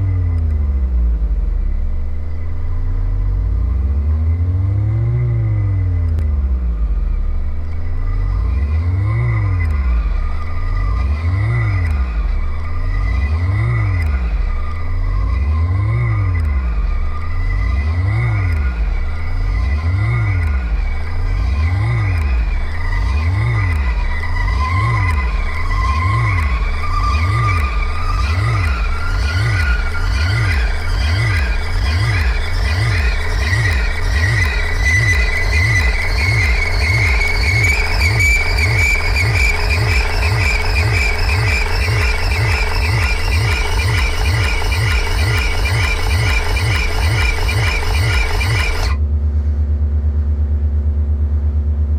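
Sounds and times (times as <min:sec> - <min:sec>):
synthesizer pitch gliding: 0:00.0 - 0:51.8
steady low rumble: 0:00.0 - 0:51.9.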